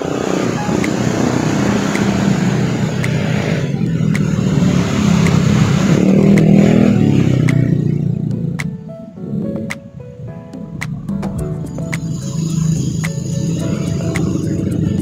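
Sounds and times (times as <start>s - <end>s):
motorcycle engine: 0.0s - 9.7s, 10.7s - 15.0s
car engines passing: 0.0s - 15.0s.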